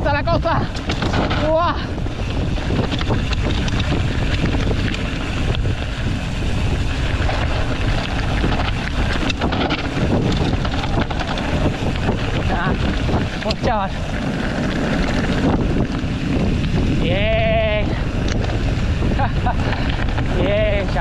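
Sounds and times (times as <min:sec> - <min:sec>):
bike rattling and knocking: 0:00.0 - 0:21.0
bike tyres rumbling on rough trail: 0:00.0 - 0:21.0
wind buffeting the microphone: 0:00.0 - 0:21.0.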